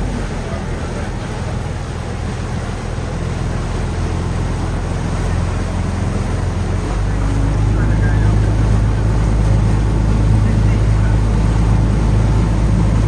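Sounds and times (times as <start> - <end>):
ferry engine hum: 0.0 - 13.0
water rushing: 0.0 - 13.0.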